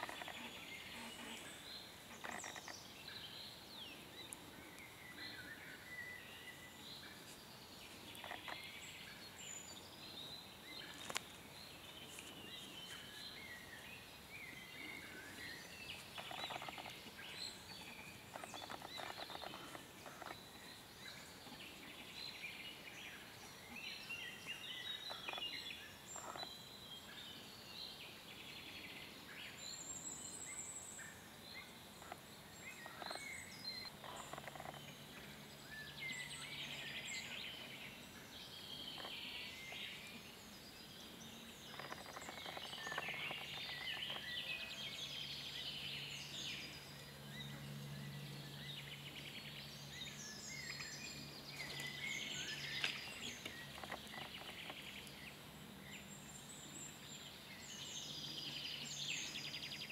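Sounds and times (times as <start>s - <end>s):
birds singing: 0.0s - 59.9s.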